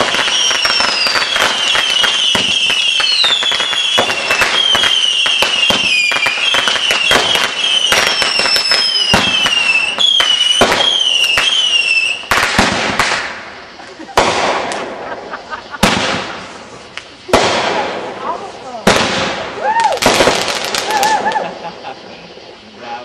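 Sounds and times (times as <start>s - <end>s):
firecrackers crackling and popping: 0.0s - 23.0s
firework whistles: 0.0s - 23.0s.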